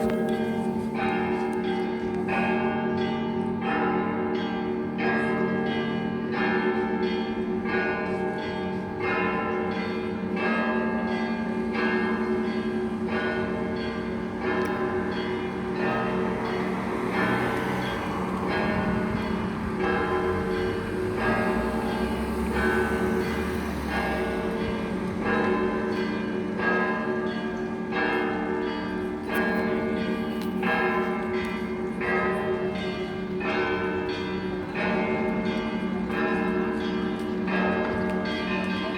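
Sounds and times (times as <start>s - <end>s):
church bells ringing: 0.0s - 38.9s
hum of large bells: 0.0s - 38.9s.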